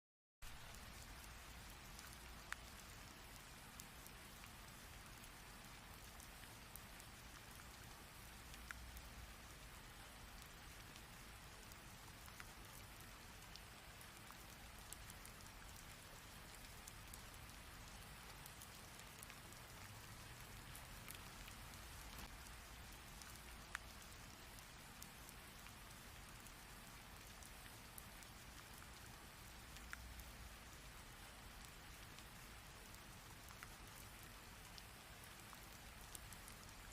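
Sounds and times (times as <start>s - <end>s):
raindrops ticking: 0.4s - 36.9s.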